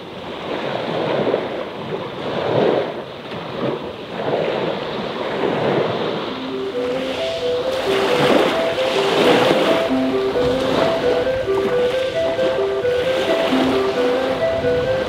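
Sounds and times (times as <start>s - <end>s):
small waves washing on shore: 0.0s - 14.4s.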